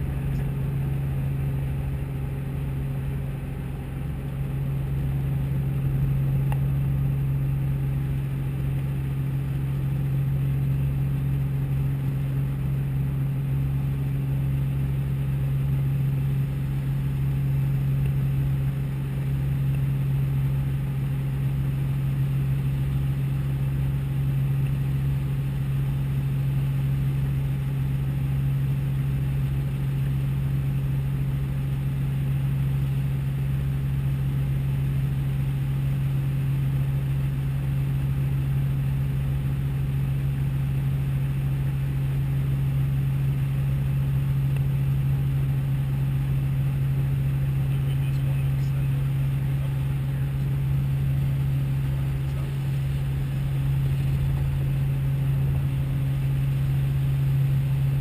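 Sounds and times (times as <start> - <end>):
helicopter engine drone: 0.0 - 58.0
helicopter rotor throb: 0.0 - 58.0.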